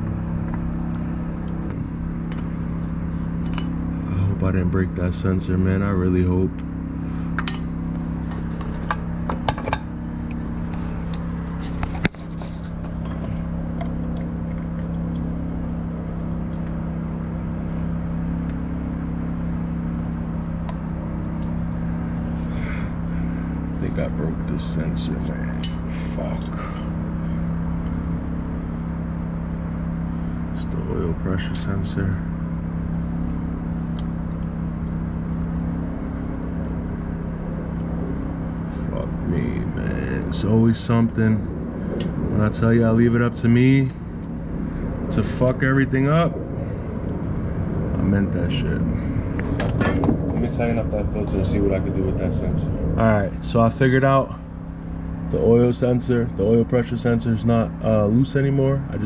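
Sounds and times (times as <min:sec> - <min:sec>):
faint high whine: 0:00.0 - 0:59.0
steady mechanical hum: 0:00.0 - 0:59.0.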